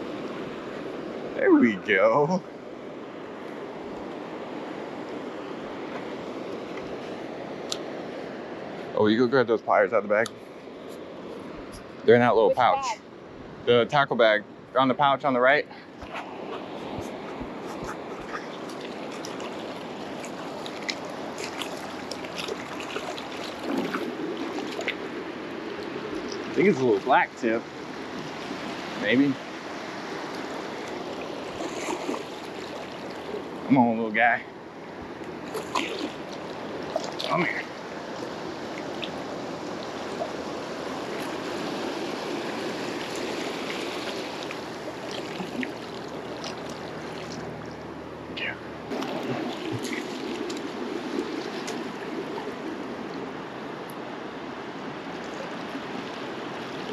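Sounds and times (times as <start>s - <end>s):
surf washing over sand: 0.0s - 56.9s.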